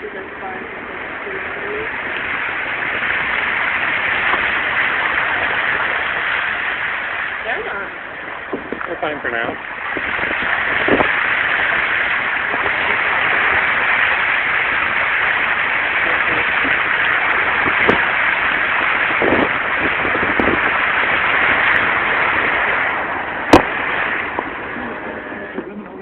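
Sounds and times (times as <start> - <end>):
low thumps: 0.0 - 26.0
rushing water: 0.0 - 26.0.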